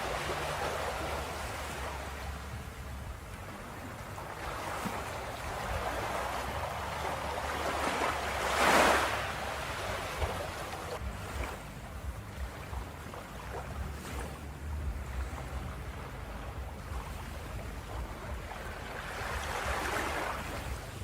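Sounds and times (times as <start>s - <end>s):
surf washing: 0.0s - 21.0s
wave breaking: 0.0s - 21.0s.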